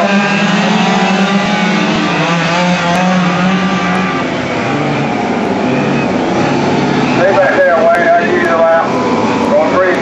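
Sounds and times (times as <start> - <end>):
rc race car engines buzzing: 0.0 - 10.0.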